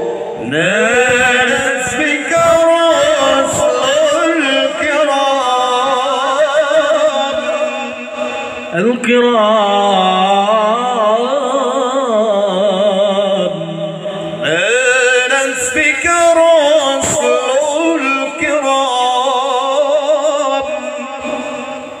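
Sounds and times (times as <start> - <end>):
men singing into microphones: 0.0 - 22.0.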